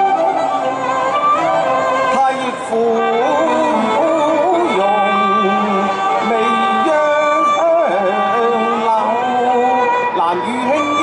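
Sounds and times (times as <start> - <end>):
instrumental accompaniment: 0.0 - 11.0
person singing long held notes: 2.1 - 11.0.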